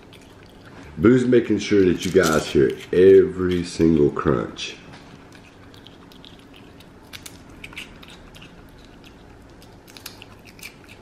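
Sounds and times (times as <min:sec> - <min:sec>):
monkey crunching chips: 0:00.0 - 0:11.0.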